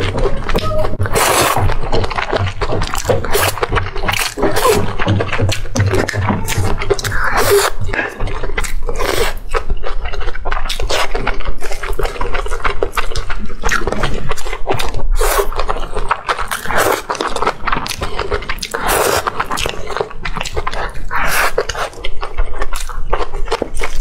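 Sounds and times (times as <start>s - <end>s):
wet chewing with mouth clicks: 0.0s - 24.0s.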